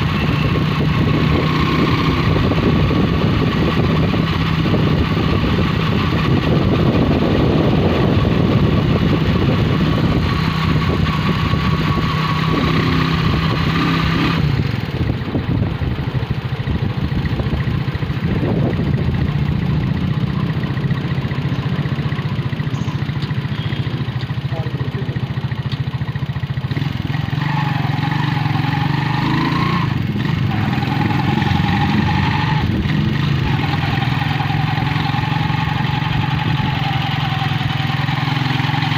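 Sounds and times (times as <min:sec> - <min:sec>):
small vehicle engine running: 0:00.0 - 0:38.9.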